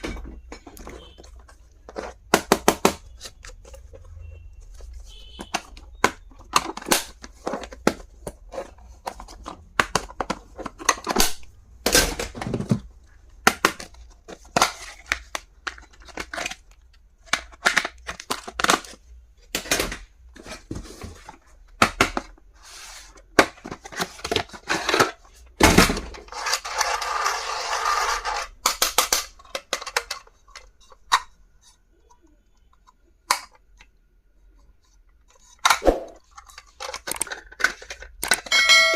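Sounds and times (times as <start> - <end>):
packaging clicks and crinkles: 0.4 - 22.4, 28.0 - 38.5.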